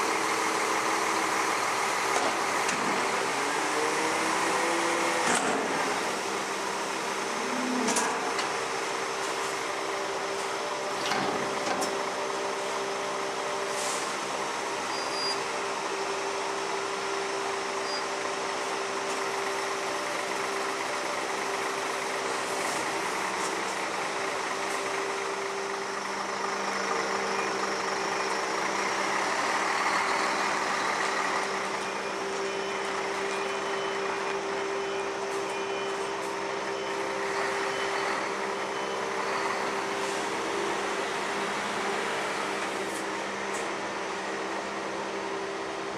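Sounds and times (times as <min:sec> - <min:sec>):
garbage truck engine rumbling: 0:00.0 - 0:45.9.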